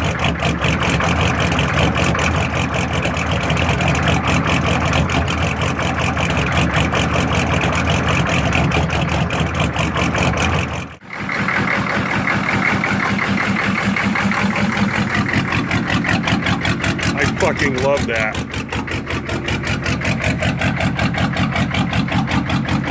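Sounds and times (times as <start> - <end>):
diesel engine idling clatter: 0.0 - 22.9.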